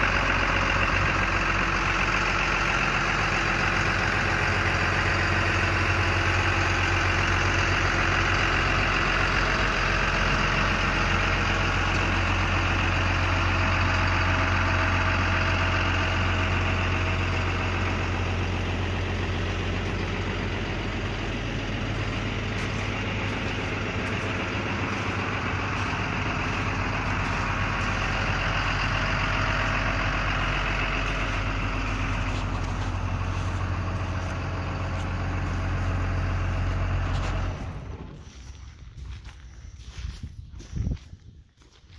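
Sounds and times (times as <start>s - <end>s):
excavator diesel engine idling: 0.0s - 41.9s.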